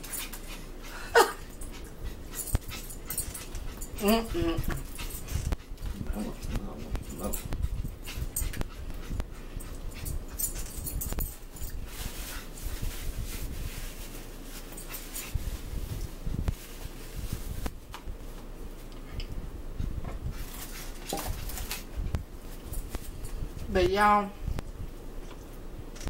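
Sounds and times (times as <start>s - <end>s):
clicks and rustles of eating: 0.0s - 19.4s, 20.0s - 23.7s.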